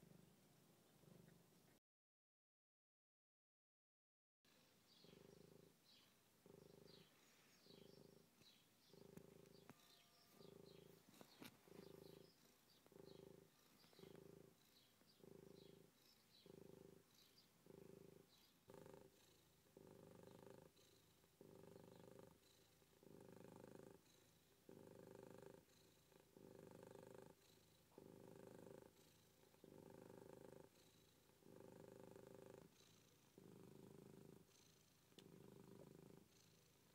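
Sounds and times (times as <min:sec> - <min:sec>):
cat purring: 0:00.0 - 0:01.8, 0:04.5 - 0:36.9.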